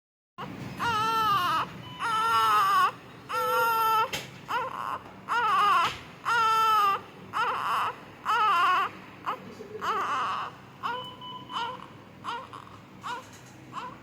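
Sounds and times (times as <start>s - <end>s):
newborn baby crying: 0.4s - 14.0s.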